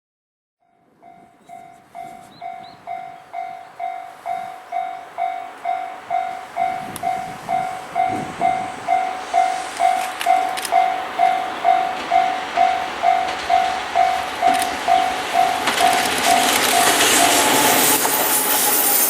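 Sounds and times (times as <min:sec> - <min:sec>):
approaching train: 0:00.6 - 0:19.0
level crossing bell ringing: 0:00.7 - 0:17.8.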